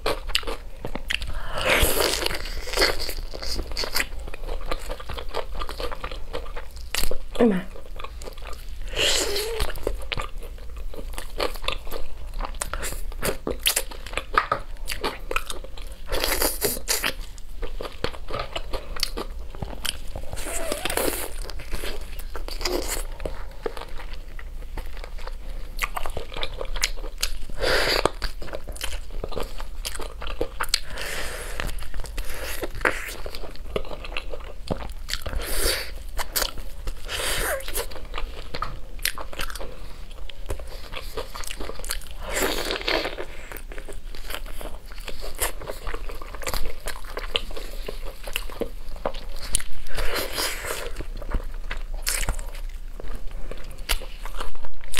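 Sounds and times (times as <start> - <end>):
person chewing ribs: 0.0 - 54.9.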